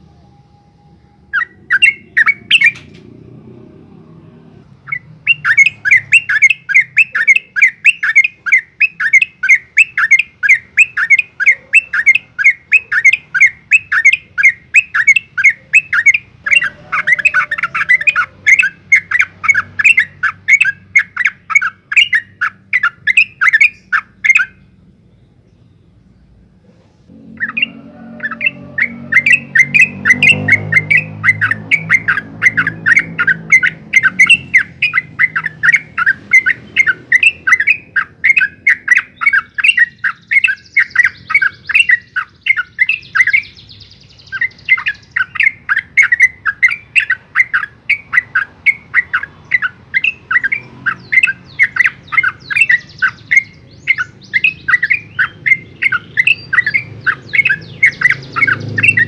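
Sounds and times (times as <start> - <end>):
bird singing rapid chattering notes: 1.3 - 3.3, 4.8 - 26.0, 27.1 - 59.0.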